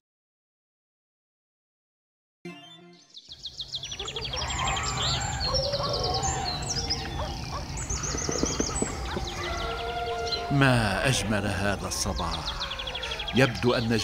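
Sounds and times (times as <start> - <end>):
birds chirping and trilling: 2.5 - 14.0.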